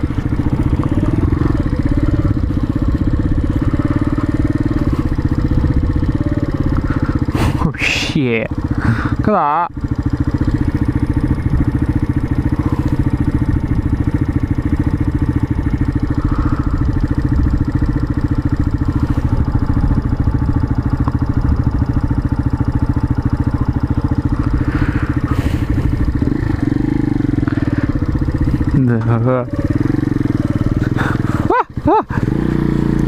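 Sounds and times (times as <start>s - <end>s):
motorcycle engine at low revs: 0.0s - 33.0s.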